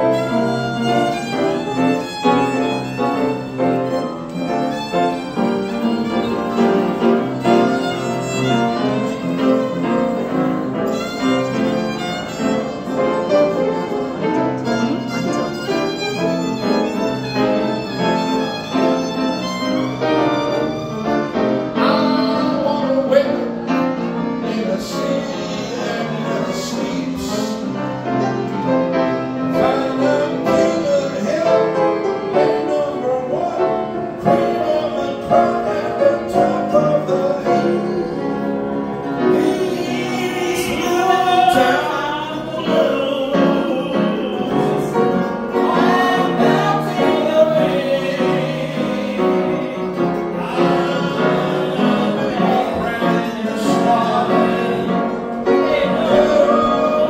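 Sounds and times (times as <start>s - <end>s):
piano accompaniment: 0.0s - 57.0s
violin melody: 0.0s - 57.0s.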